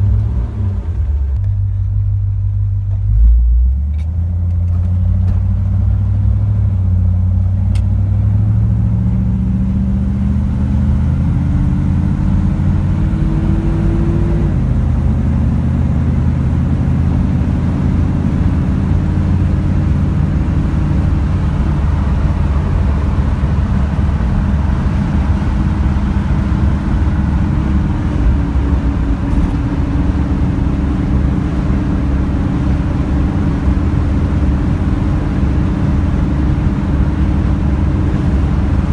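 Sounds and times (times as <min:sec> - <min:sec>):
car engine accelerating: 0:00.0 - 0:38.9
tyre and road noise: 0:00.0 - 0:38.9.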